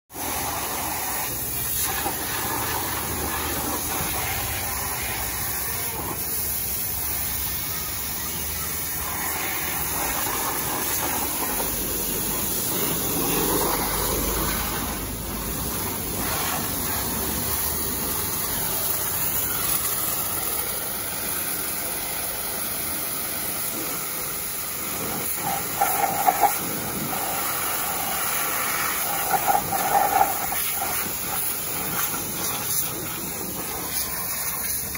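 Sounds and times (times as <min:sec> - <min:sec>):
pressure washer jet hissing: 0:00.1 - 0:34.9.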